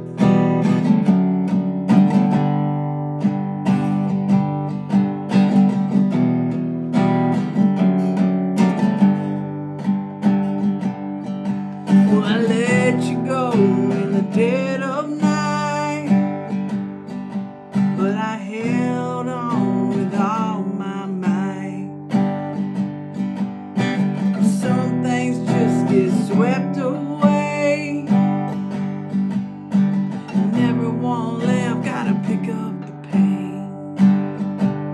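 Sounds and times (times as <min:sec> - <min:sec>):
strummed acoustic guitar: 0:00.0 - 0:34.9.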